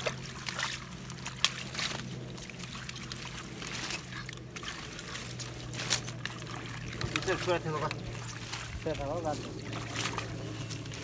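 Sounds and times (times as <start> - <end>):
muddy water sloshing and splashing: 0.0 - 11.0
rustling clicks of pulled plants: 0.0 - 11.0
steady low hum: 0.0 - 11.0.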